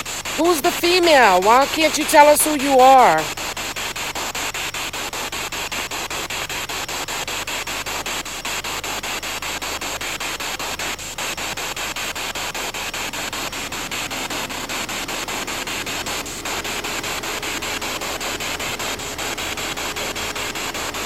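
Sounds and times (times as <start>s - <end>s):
pulsing radio static hiss: 0.0s - 21.0s.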